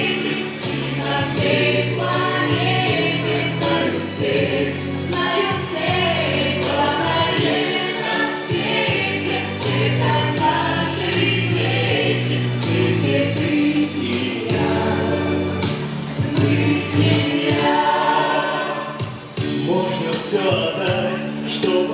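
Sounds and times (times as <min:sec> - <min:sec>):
steady drum beat: 0:00.0 - 0:21.8
vocal ensemble singing: 0:00.0 - 0:21.9.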